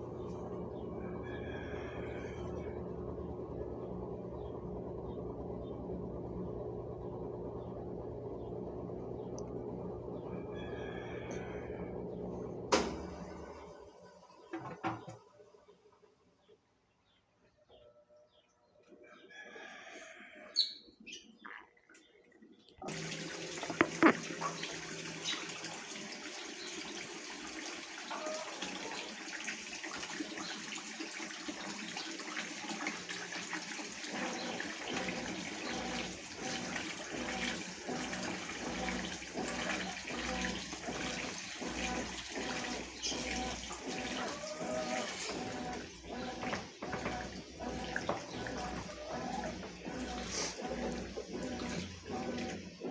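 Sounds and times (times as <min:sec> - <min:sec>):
water rushing into washing machine tub: 0:00.0 - 0:15.3, 0:22.8 - 0:52.9.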